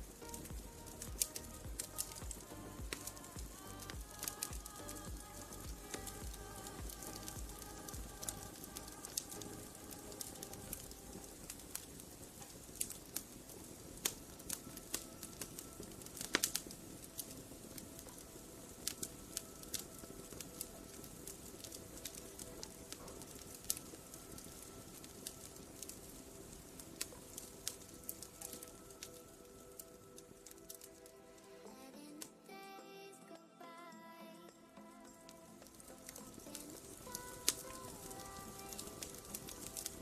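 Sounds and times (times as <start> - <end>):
wood fire crackling: 0.0 - 32.4, 35.3 - 40.0
soft sustained music tones: 0.0 - 40.0.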